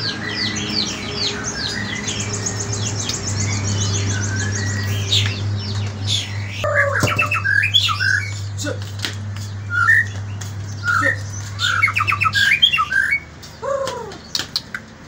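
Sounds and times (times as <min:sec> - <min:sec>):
songbird whistling song: 0:00.0 - 0:08.6, 0:09.4 - 0:14.7
steady low hum: 0:00.5 - 0:13.8.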